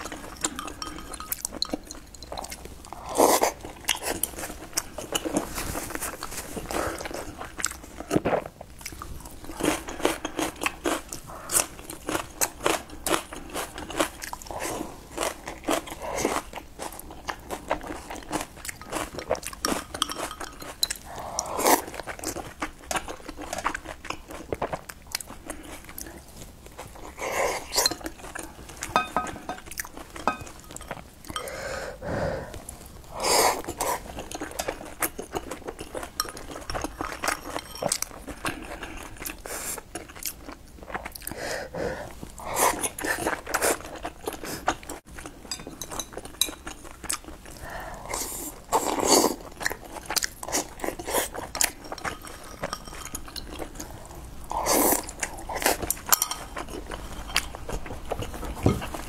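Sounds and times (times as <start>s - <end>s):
person chewing soft buns: 0.0s - 59.0s.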